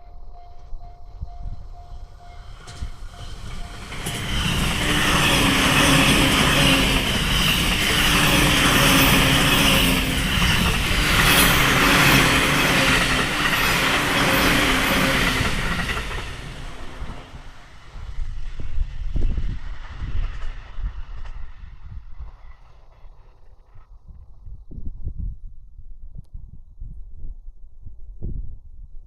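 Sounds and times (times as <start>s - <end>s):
electric train running past: 0.0s - 23.8s
wind buffeting microphone: 0.0s - 29.0s.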